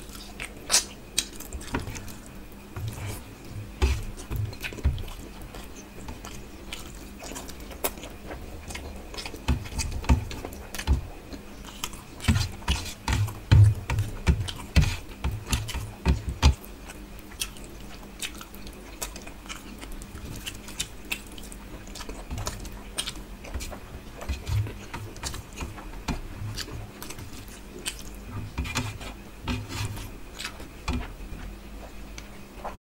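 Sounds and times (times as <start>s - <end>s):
chewing: 0.0s - 32.8s.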